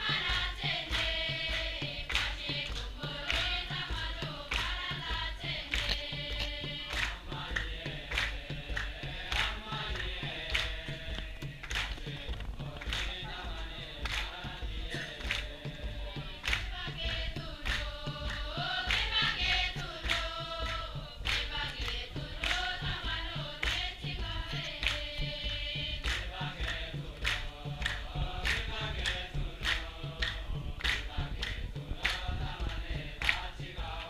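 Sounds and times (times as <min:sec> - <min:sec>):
congregation singing a hymn: 0:00.0 - 0:34.0
sharp rhythmic strikes: 0:00.0 - 0:34.0.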